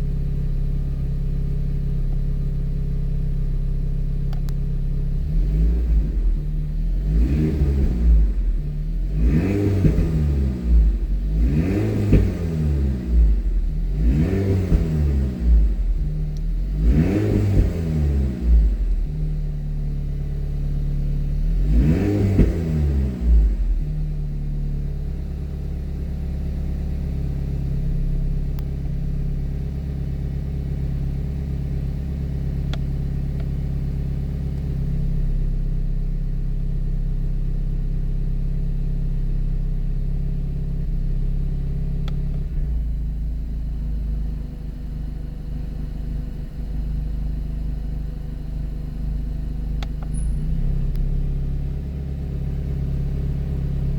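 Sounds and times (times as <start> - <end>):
car engine revving and idling: 0.0 - 53.9.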